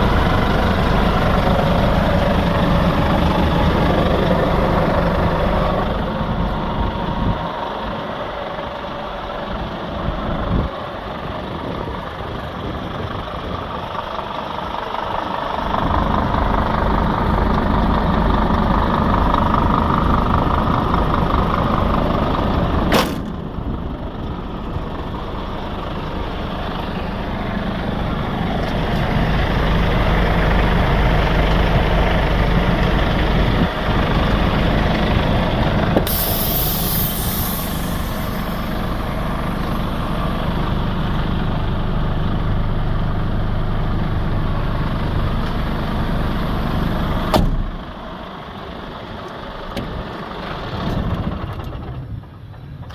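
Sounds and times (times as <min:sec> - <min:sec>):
truck diesel engine running: 0:00.0 - 0:52.8.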